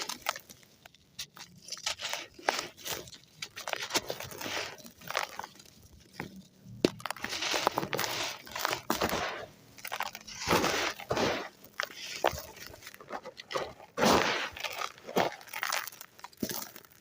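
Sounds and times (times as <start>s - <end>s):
gritty sand crumbled by hand: 0.0s - 17.0s.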